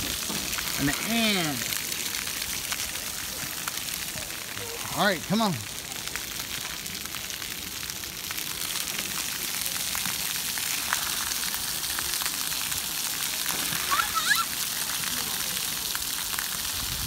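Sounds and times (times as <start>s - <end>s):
water jets spraying on wet concrete: 0.0s - 17.0s.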